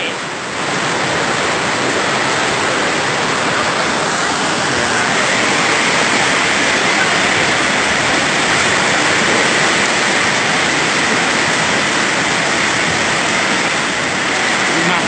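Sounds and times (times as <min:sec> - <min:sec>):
floodwater rushing: 0:00.0 - 0:15.0
torrential rain: 0:00.0 - 0:15.0.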